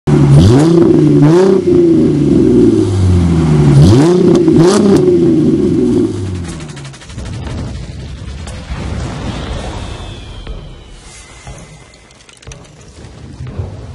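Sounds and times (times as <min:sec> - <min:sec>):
car engine revving: 0:00.1 - 0:11.6.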